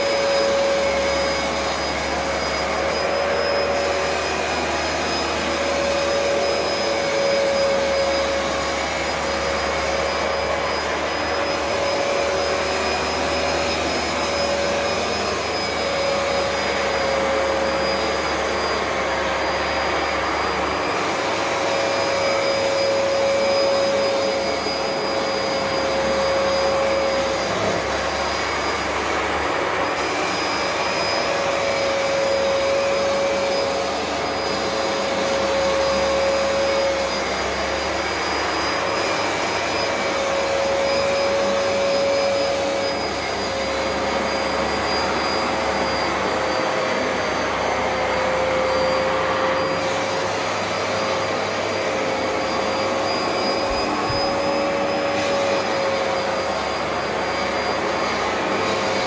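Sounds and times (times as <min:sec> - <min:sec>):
carpet washer motor whine: 0:00.0 - 0:59.0.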